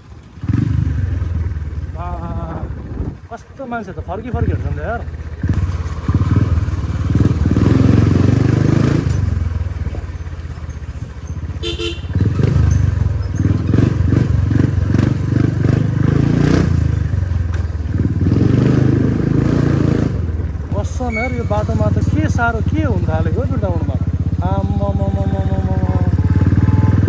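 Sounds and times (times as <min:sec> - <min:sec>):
dirt bike engine revving: 0:00.4 - 0:03.1, 0:05.4 - 0:09.6, 0:11.4 - 0:27.0.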